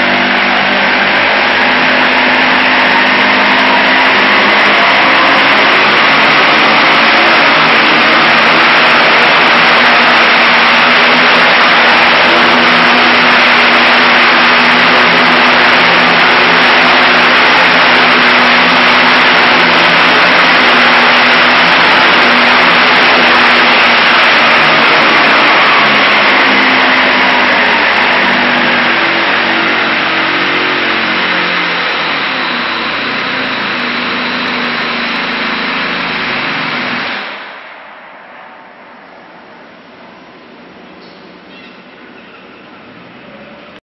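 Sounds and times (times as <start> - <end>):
twin-cylinder engine running: 0.0 - 37.8.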